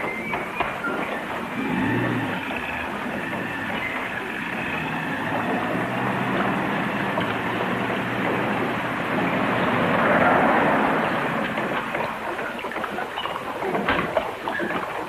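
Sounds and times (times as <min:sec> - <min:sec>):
truck engines droning: 0:00.0 - 0:15.0.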